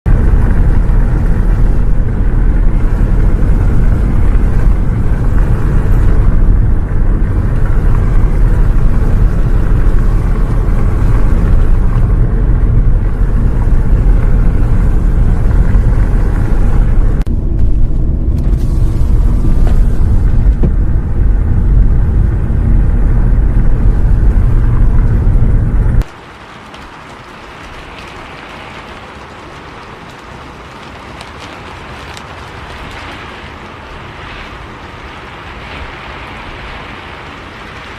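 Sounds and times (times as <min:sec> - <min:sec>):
bus rumbling on road: 0:00.0 - 0:37.9
hiss of rain: 0:00.1 - 0:37.9.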